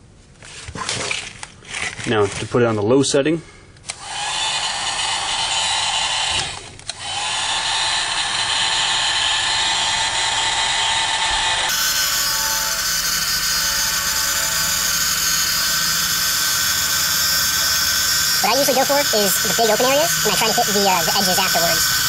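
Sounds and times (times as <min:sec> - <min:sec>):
heat gun fan whining: 0:03.8 - 0:22.0.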